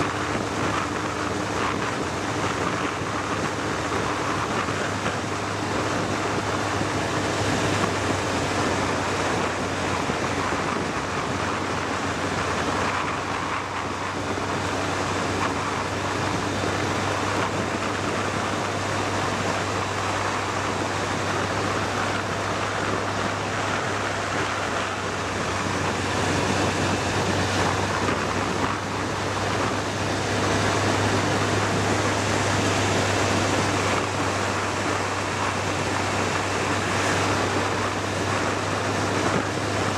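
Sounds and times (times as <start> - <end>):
motorcycle engine drone: 0.0 - 39.9
wind rush and road noise: 0.0 - 39.9.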